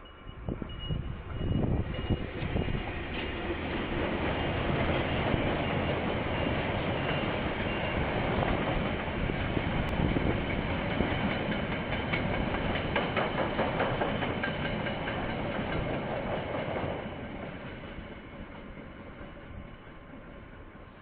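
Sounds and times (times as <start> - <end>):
train wheels rumbling: 0.0 - 21.0
wheels clacking over rail joints: 1.3 - 20.6.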